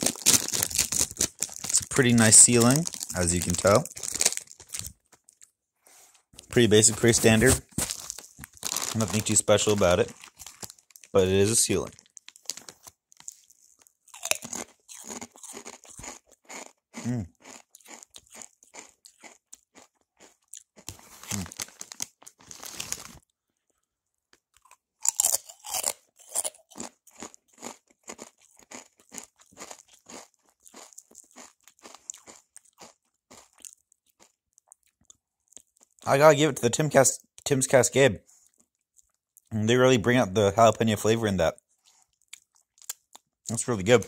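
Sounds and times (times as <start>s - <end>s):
chewing crisp potato chips: 0.0s - 5.6s, 6.4s - 36.2s, 38.3s - 39.6s, 41.7s - 44.0s.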